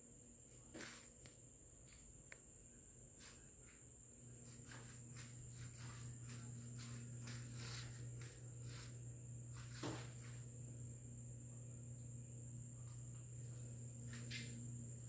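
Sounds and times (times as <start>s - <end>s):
low hum: 1.6s - 15.0s.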